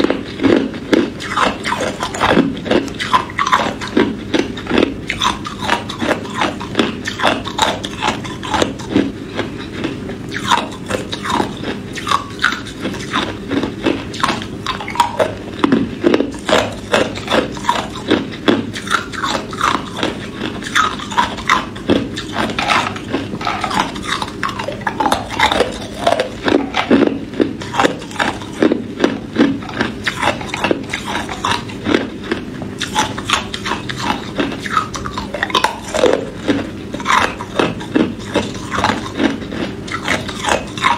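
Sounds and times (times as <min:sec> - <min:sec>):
ice cubes crunching in mouth: 0:00.0 - 0:40.9.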